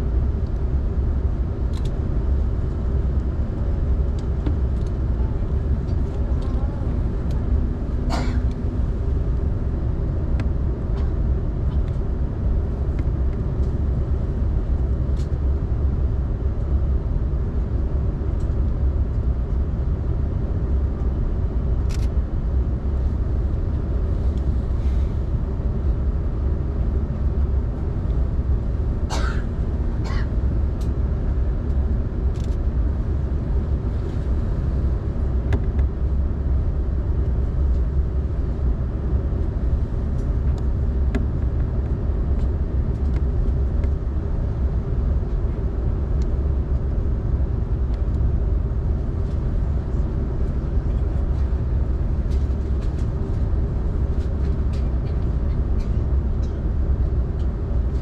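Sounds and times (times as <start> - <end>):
low rumble of aircraft cabin: 0.0 - 58.0.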